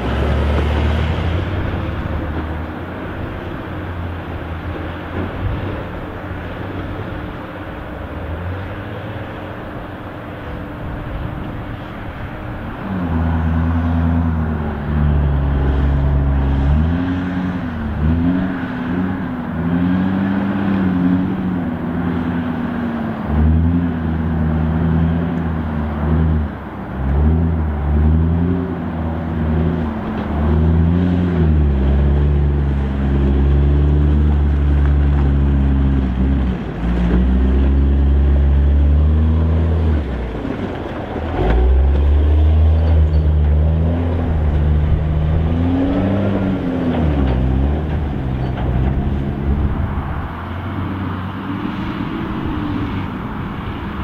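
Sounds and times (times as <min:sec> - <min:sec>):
diesel engine labouring: 0:00.0 - 0:54.0.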